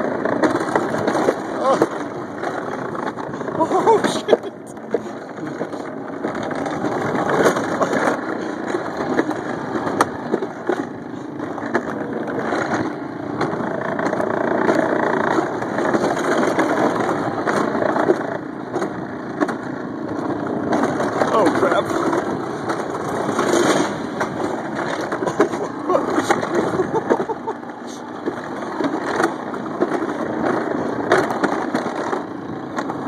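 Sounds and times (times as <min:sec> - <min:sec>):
sled wheels rattling on rail: 0:00.0 - 0:33.0
sharp clicks and knocks: 0:04.0 - 0:33.0.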